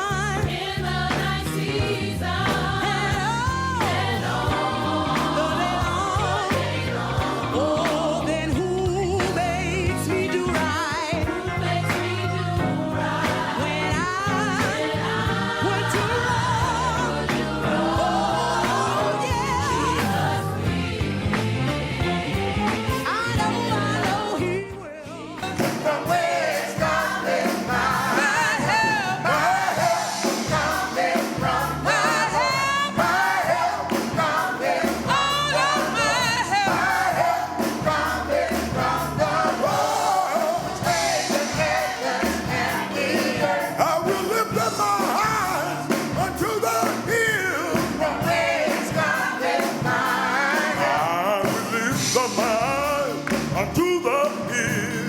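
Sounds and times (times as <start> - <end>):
band accompaniment: 0.0 - 55.0
gospel choir singing: 0.0 - 55.0.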